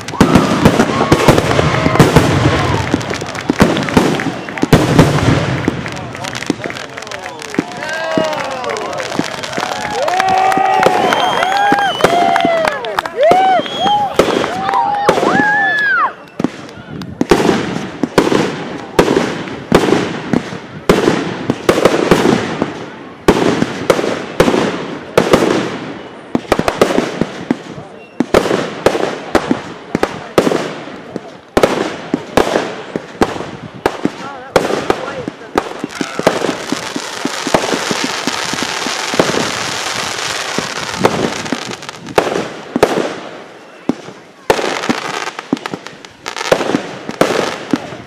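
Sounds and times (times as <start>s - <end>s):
fireworks bangs: 0.0s - 48.0s
fireworks crackling pops: 0.0s - 48.0s.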